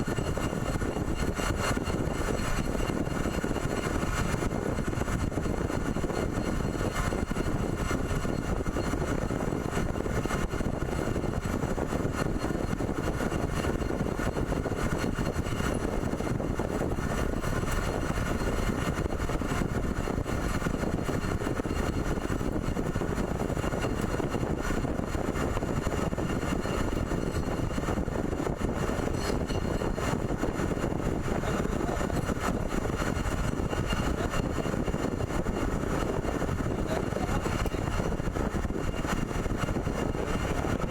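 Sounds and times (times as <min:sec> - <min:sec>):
pipe threading machine drone: 0:00.0 - 0:40.9.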